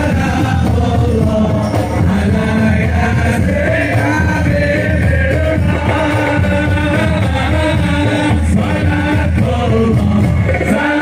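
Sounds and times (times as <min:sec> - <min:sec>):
man singing devotional song: 0:00.0 - 0:11.0
musical accompaniment: 0:00.0 - 0:11.0.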